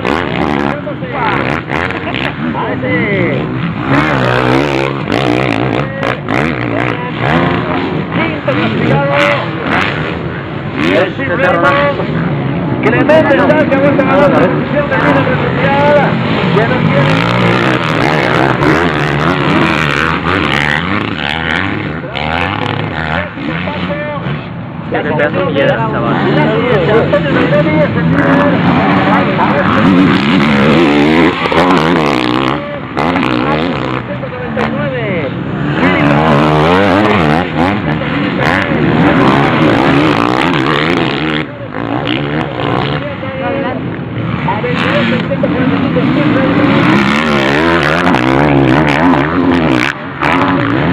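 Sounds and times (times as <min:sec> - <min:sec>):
motocross bikes revving: 0:00.0 - 0:50.9.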